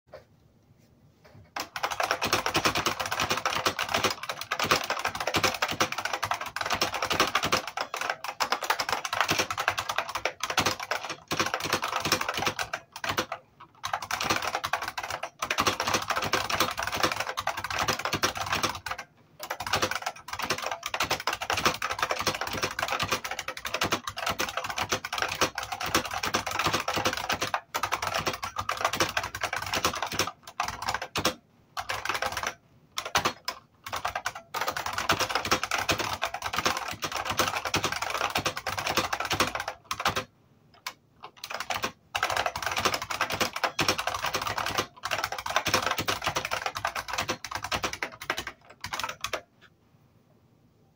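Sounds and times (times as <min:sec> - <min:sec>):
clicky keyboard typing: 0:01.5 - 0:49.7.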